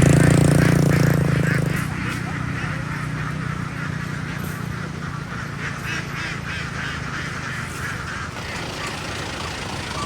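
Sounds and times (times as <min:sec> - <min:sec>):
ducks quacking: 0:00.0 - 0:10.0
low motor hum: 0:00.0 - 0:10.0.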